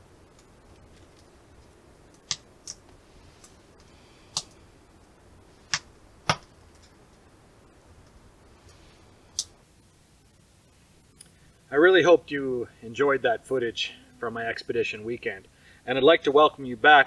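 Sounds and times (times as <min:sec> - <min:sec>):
small fire crackling and popping: 0:00.0 - 0:17.0.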